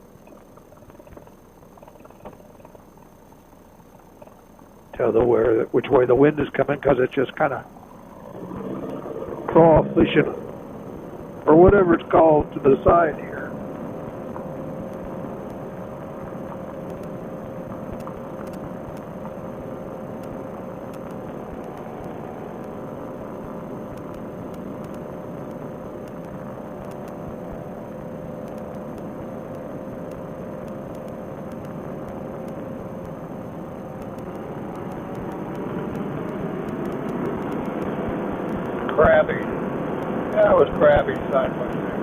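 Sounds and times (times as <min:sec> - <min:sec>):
paramotor engine and propeller droning: 0:05.1 - 0:42.0.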